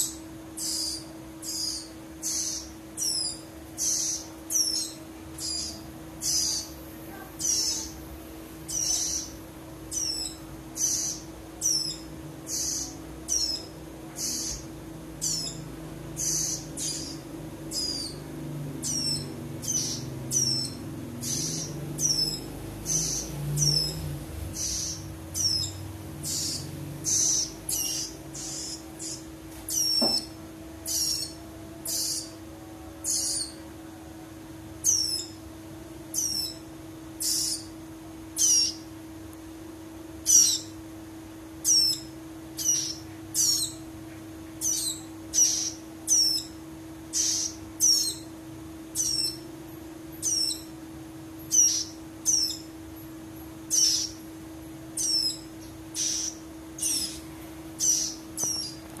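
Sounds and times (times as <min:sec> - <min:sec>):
bird chicks calling: 0:00.0 - 0:08.0, 0:08.6 - 0:32.4, 0:33.0 - 0:33.6, 0:34.8 - 0:35.4, 0:36.1 - 0:36.6, 0:37.2 - 0:37.8, 0:38.4 - 0:38.9, 0:40.2 - 0:40.8, 0:41.6 - 0:43.9, 0:44.6 - 0:49.5, 0:50.2 - 0:50.7, 0:51.4 - 0:52.7, 0:53.7 - 0:54.3, 0:54.9 - 0:59.0.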